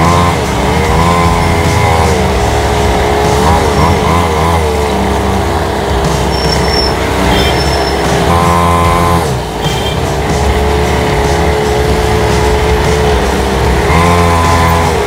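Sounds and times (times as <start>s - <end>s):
mini dirt bike engines buzzing: 0.0s - 15.0s.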